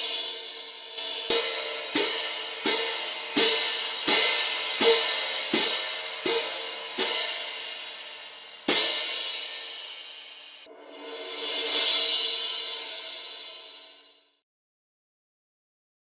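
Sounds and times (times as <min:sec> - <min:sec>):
cymbal crashes: 0:00.0 - 0:14.2.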